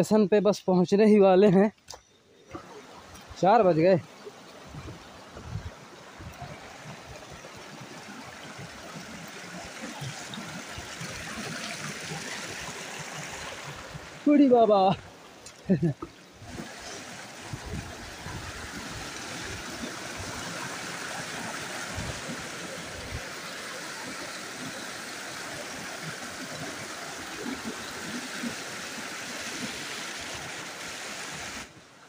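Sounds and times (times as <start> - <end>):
stream rushing over rocks: 2.4 - 32.0.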